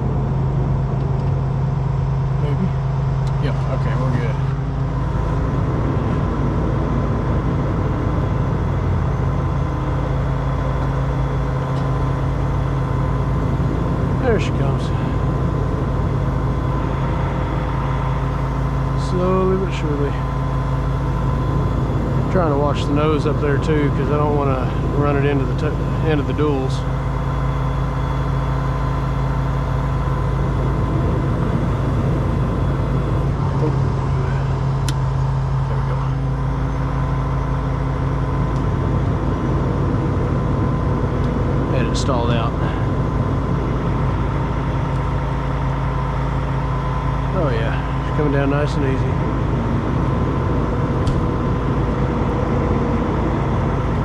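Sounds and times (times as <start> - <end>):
diesel truck engine running: 0.0 - 54.0
faint steady whine: 0.0 - 54.0.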